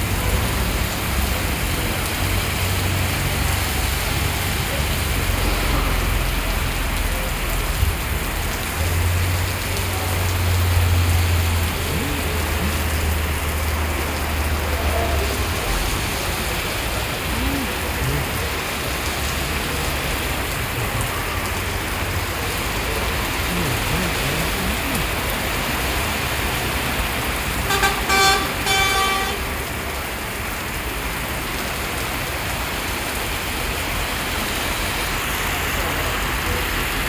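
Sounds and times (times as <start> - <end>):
heavy rain pattering: 0.0 - 37.0.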